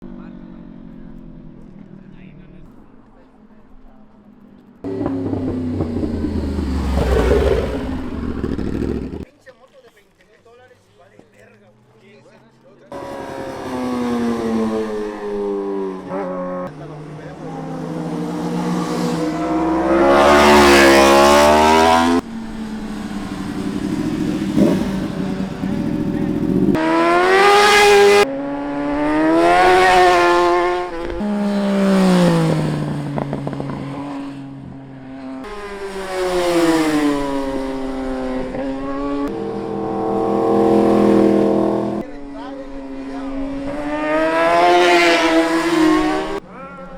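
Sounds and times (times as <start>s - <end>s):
motorcycle engine accelerating hard: 4.8s - 9.3s, 12.9s - 46.5s.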